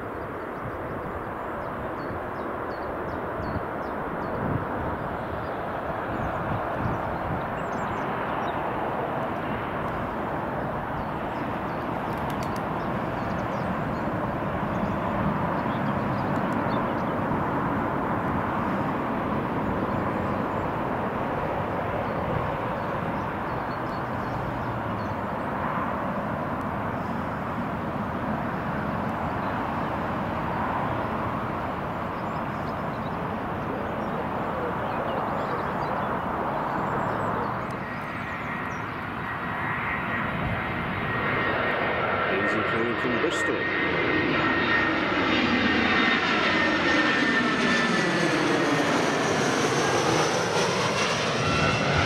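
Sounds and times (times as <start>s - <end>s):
distant jet engines running: 0.0s - 52.0s.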